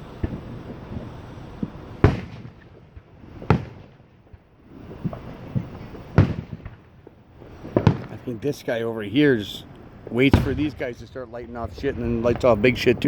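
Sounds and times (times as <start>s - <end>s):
faint firework pops: 0.0s - 8.5s, 9.7s - 13.0s
firework booms with echo: 0.0s - 13.0s.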